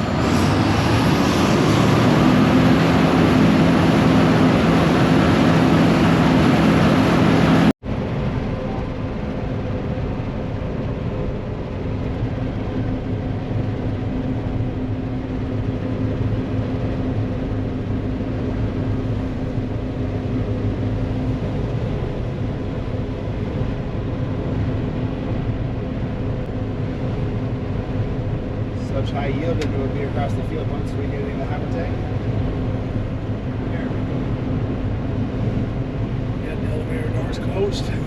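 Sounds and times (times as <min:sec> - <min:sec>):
combine harvester running: 0:00.0 - 0:38.0.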